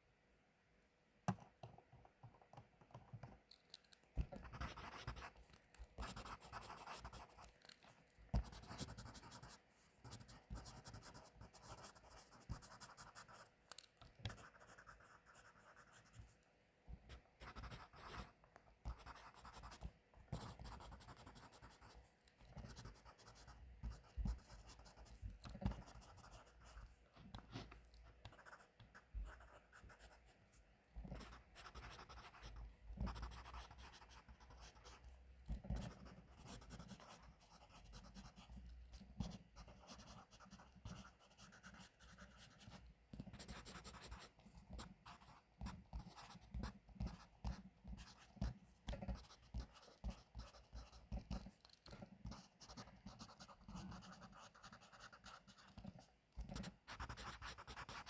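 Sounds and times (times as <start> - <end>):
pencil scratching on paper: 4.2 - 16.4, 17.1 - 58.0.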